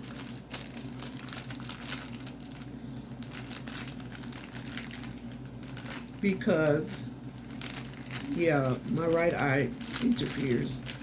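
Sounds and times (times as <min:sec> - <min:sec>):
packaging crinkling: 0:00.0 - 0:11.0
steady low hum: 0:00.0 - 0:11.0.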